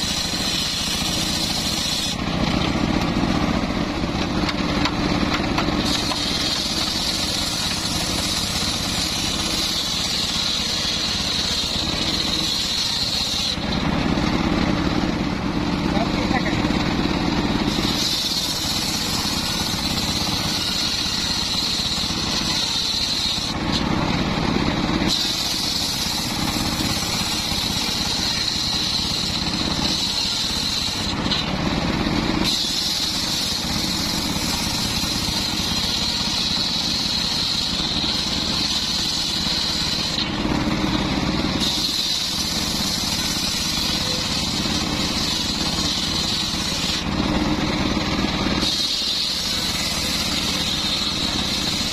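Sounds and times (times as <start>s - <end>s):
circular saw cutting wood: 0.0s - 51.9s.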